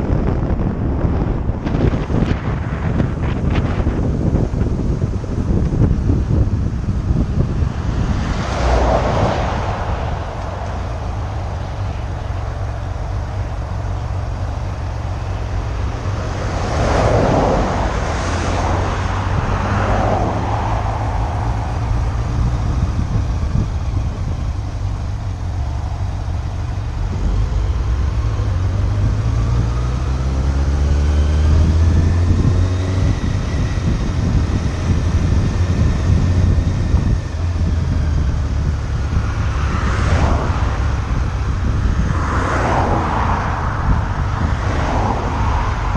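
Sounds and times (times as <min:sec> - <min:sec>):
motorcycle engine drone: 0:00.0 - 0:45.9
wind rush on microphone: 0:00.0 - 0:45.9.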